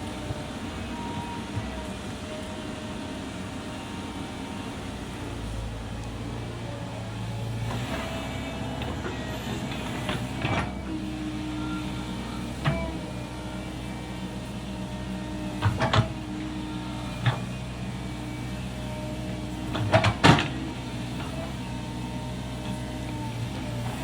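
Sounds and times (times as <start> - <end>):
hydraulic excavator running: 0.0 - 24.0.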